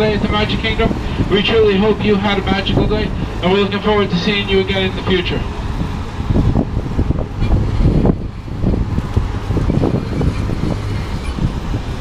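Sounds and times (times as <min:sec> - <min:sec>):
low rumble of tram and tyres: 0:00.0 - 0:12.0.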